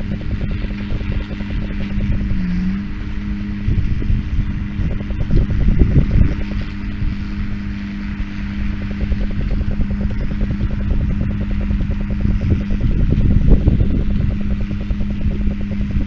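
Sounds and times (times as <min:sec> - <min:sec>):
hay baler pulsing: 0:00.0 - 0:16.0
heavy low rumble: 0:00.0 - 0:16.0
tractor engine running: 0:00.0 - 0:16.0.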